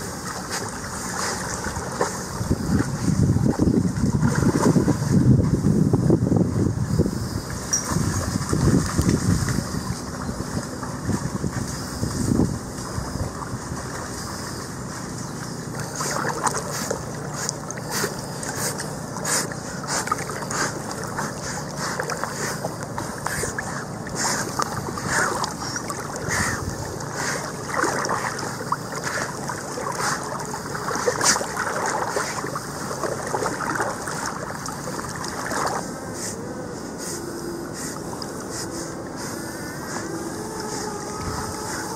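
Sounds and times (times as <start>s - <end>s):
dogs splashing through water: 0.0s - 5.8s, 7.4s - 36.4s.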